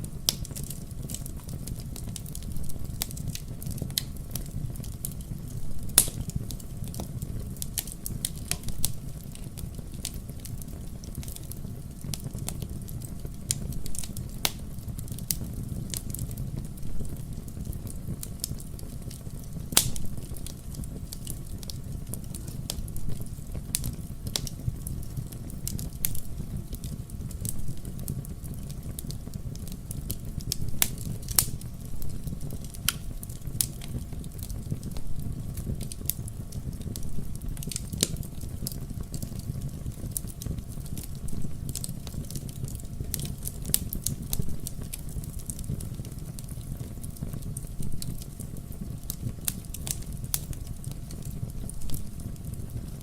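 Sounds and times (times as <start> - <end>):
fire crackling in a fireplace: 0.0 - 53.0
loud fire snaps: 0.0 - 53.0.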